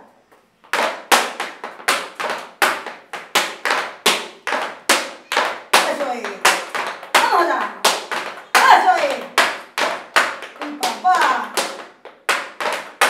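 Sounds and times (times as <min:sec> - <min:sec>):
sharp hand claps: 0:00.7 - 0:13.0.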